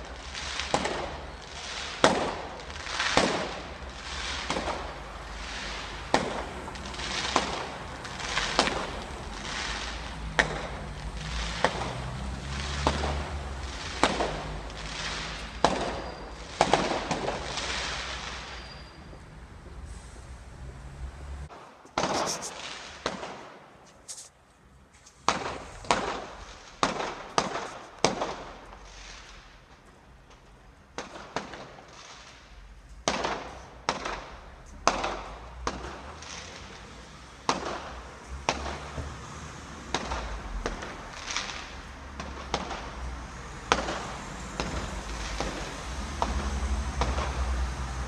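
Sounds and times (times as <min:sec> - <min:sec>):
fireworks bangs: 0:00.0 - 0:20.2, 0:20.9 - 0:24.3, 0:25.2 - 0:48.0.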